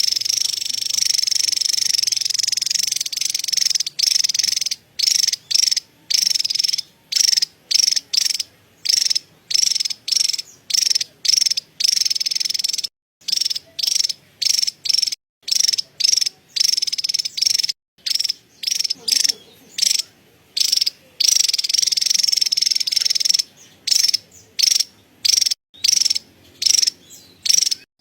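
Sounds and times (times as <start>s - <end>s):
bird chattering buzzy rattles: 0.0s - 27.9s.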